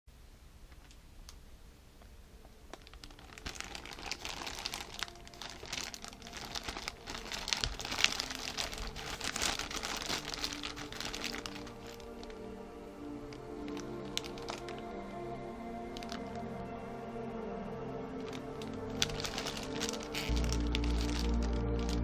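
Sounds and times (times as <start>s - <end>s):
background music: 2.2s - 22.0s
plastic bag crinkling: 2.6s - 16.5s, 18.2s - 22.0s.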